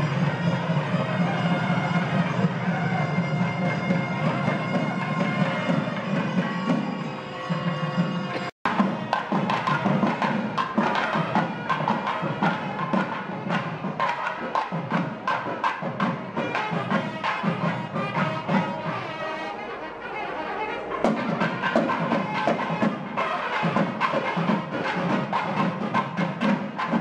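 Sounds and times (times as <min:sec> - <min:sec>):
festival drumming: 0:00.0 - 0:19.2, 0:20.9 - 0:27.0.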